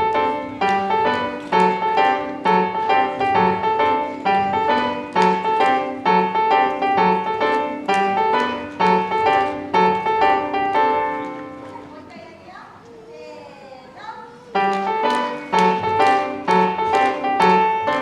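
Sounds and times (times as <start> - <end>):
piano tune: 0.0 - 12.1, 14.4 - 18.0.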